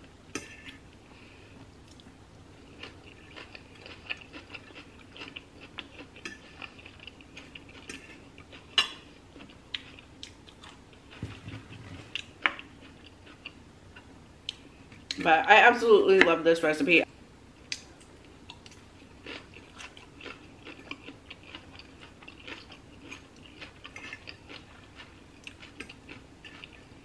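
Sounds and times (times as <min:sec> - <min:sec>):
chewing and crunching: 0:01.8 - 0:15.2, 0:17.7 - 0:27.0.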